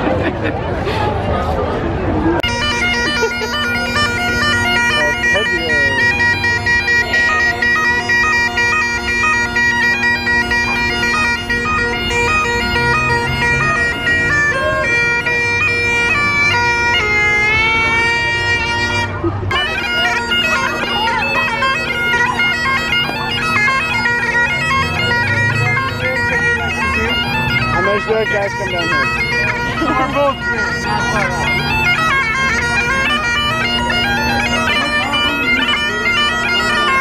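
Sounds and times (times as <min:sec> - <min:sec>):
bagpipe chanter melody: 0:02.4 - 0:37.0
bagpipe drones: 0:02.4 - 0:37.0.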